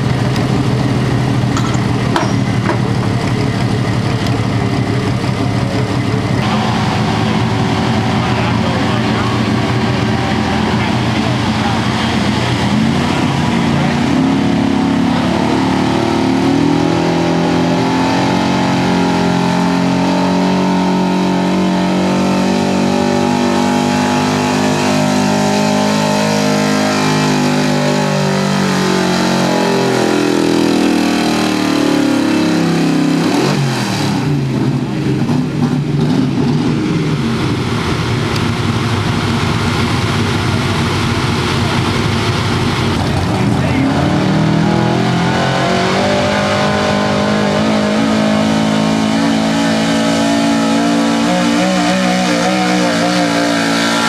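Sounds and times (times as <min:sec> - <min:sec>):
rough low engine sound: 0:00.0 - 0:17.1, 0:20.8 - 0:47.6
truck engine under full load: 0:00.0 - 0:54.0.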